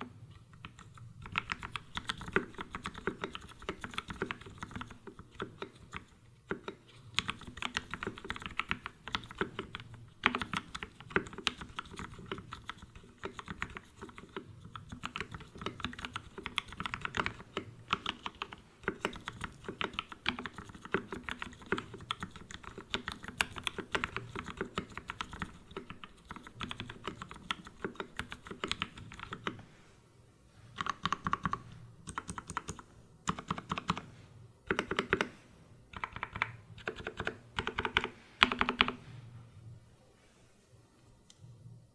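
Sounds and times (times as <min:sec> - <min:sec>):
mechanical keyboard typing: 0:00.0 - 0:29.6, 0:30.8 - 0:34.1, 0:34.7 - 0:39.0.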